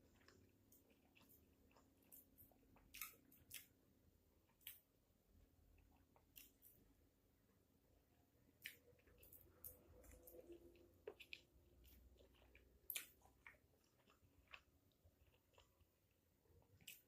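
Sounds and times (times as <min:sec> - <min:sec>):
quiet chewing of noodles: 0:00.0 - 0:05.0, 0:05.6 - 0:07.0, 0:08.4 - 0:17.0.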